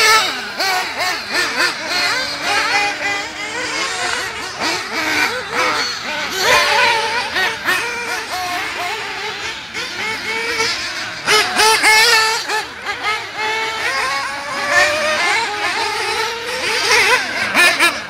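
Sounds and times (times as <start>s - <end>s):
high-revving model car engine: 0.0s - 18.0s.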